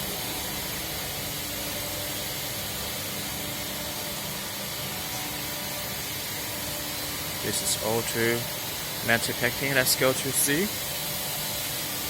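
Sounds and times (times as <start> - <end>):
machine hiss and hum: 0.0 - 12.0.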